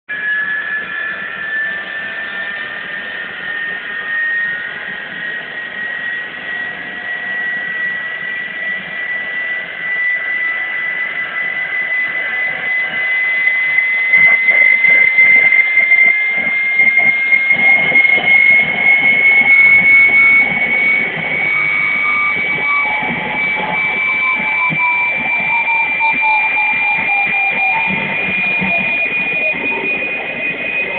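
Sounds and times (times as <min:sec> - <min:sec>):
gas turbine engine whine: 0:00.1 - 0:30.9
lower falling tone: 0:00.1 - 0:30.9.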